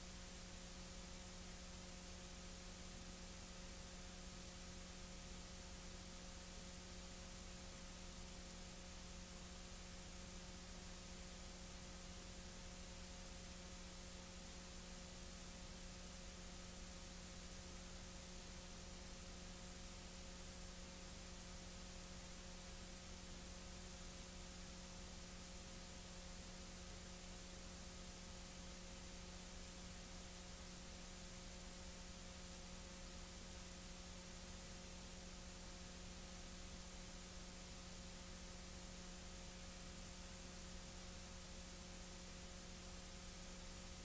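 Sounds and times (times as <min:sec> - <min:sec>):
faint steady hiss: 0:00.0 - 0:44.0
low electrical hum: 0:00.0 - 0:44.0.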